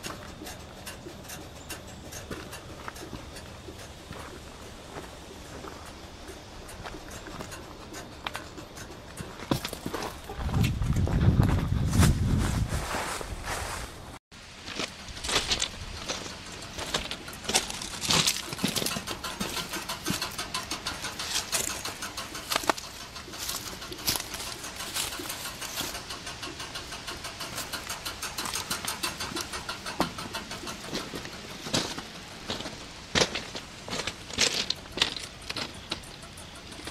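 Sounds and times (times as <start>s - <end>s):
relays clicking rapidly: 0.0s - 10.8s, 14.8s - 36.9s.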